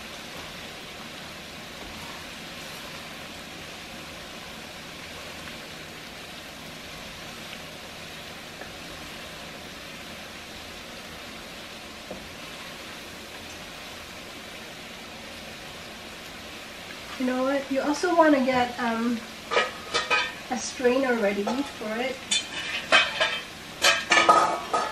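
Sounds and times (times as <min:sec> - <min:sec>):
garlic sizzling in hot oil: 0:00.0 - 0:24.9.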